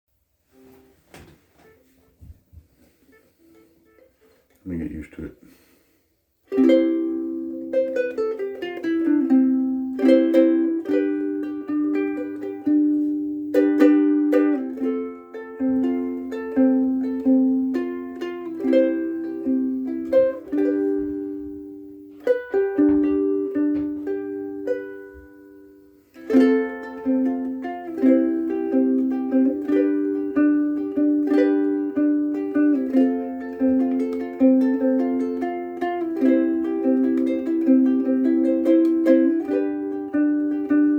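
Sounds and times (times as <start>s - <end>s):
ukulele strumming and picking: 2.8s - 4.6s, 6.5s - 40.9s.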